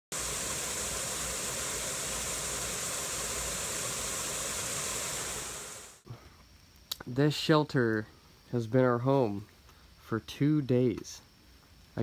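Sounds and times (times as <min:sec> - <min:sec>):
steady hissing noise: 0:00.1 - 0:12.0.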